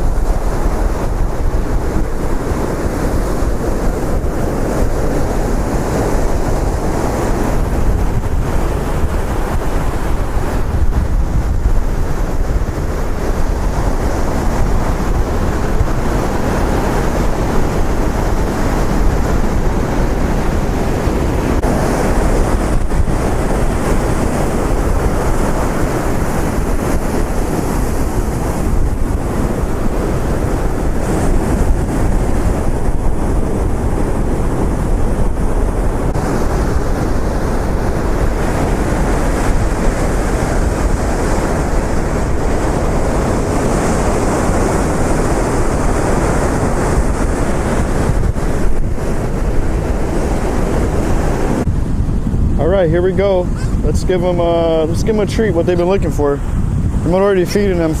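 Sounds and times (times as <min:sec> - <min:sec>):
ocean surf breaking: 0:00.0 - 0:58.0
wind rumbling on microphone: 0:00.0 - 0:58.0.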